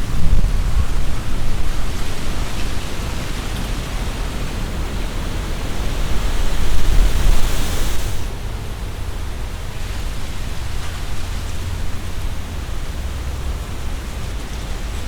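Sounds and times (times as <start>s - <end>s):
leaves rustling: 0.0s - 15.0s
wind buffeting microphone: 0.0s - 15.0s
wind gusting through trees: 0.0s - 15.0s.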